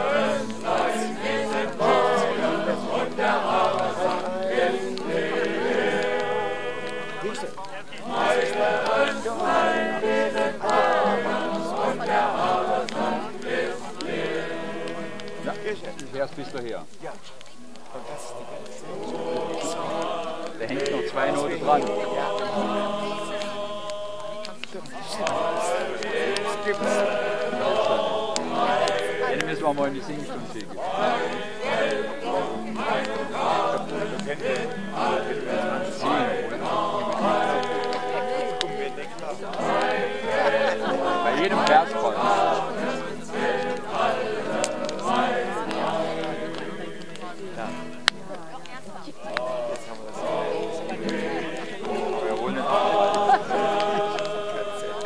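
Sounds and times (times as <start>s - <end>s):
group of voices singing: 0.0s - 16.5s, 17.8s - 55.0s.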